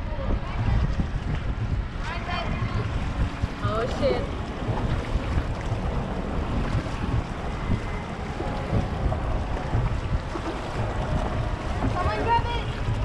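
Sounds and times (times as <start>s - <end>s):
water rushing around boat: 0.0s - 13.0s
wind buffeting microphone: 0.0s - 13.0s.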